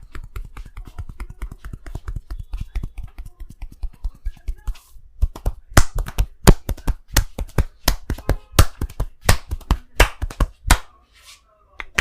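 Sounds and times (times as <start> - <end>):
hands slapping in percussive massage: 0.0 - 10.9.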